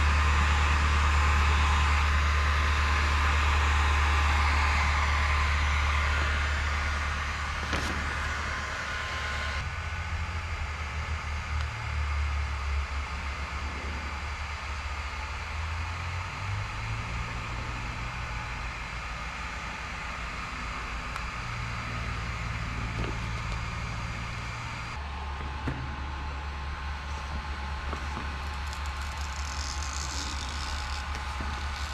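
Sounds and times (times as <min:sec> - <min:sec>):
heat gun fan whining: 0:00.0 - 0:31.9.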